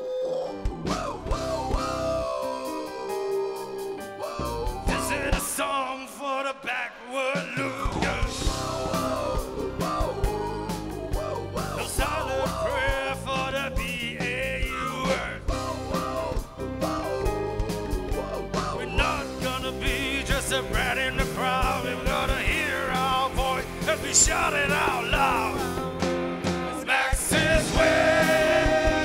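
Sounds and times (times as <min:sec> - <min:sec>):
person singing: 0:00.0 - 0:29.0
drums: 0:00.4 - 0:06.0, 0:06.7 - 0:29.0
bass guitar: 0:00.6 - 0:02.5, 0:04.3 - 0:05.6, 0:07.8 - 0:29.0
live rock band playing: 0:00.6 - 0:05.8, 0:07.6 - 0:29.0.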